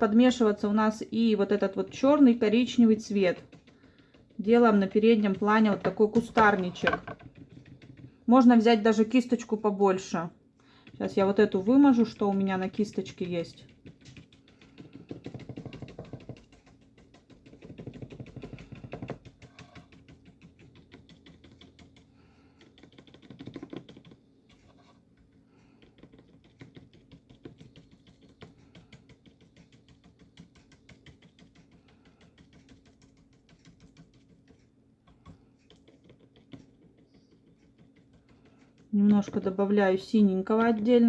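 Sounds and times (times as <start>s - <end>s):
brush scrubbing paper: 0.0s - 9.0s, 10.8s - 40.0s
bristle brush dabbing paper: 0.0s - 41.0s.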